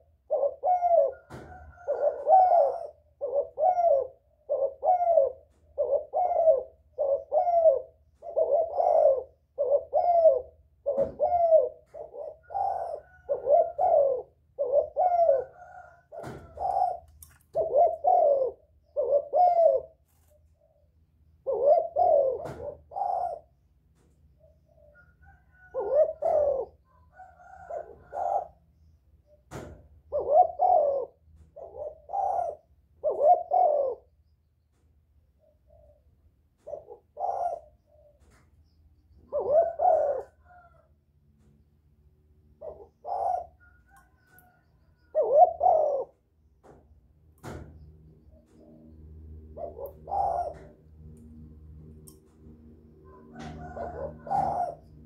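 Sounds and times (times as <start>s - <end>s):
dove cooing: 0.0s - 34.2s, 35.4s - 41.0s, 42.4s - 55.0s.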